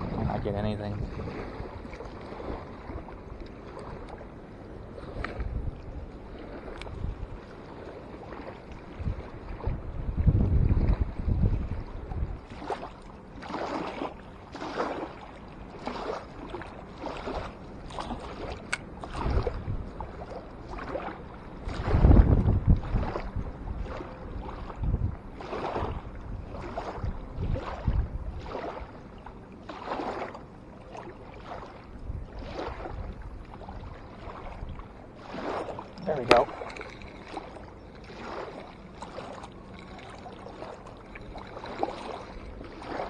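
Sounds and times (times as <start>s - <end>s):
wind rumbling on microphone: 0.0s - 29.1s, 31.2s - 43.0s
small waves lapping and splashing: 0.0s - 43.0s.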